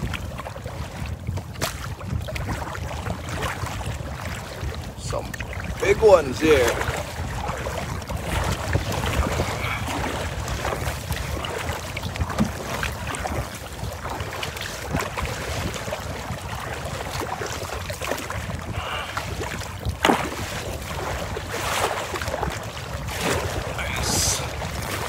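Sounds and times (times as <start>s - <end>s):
strong wind buffeting microphone: 0.0s - 25.0s
waves slapping against kayak hull: 0.0s - 25.0s.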